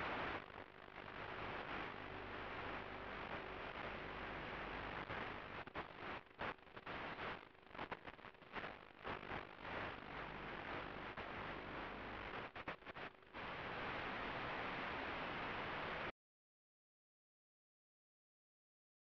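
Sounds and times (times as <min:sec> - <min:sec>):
radio receiver static hiss: 0:00.0 - 0:16.1.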